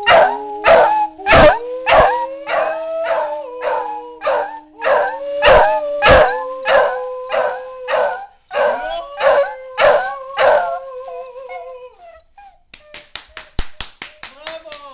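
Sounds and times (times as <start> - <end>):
dog howling: 0.0 - 12.1.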